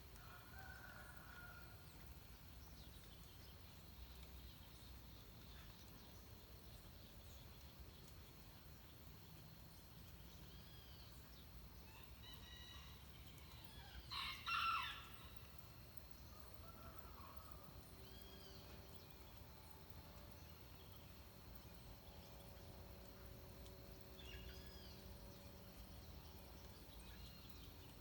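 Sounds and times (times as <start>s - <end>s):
faint scattered bird calls: 0.0s - 28.0s.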